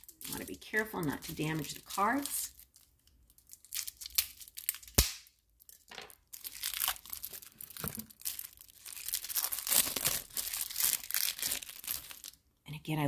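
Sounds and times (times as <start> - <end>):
cellophane wrap crinkling: 0.0 - 5.0, 5.6 - 12.5.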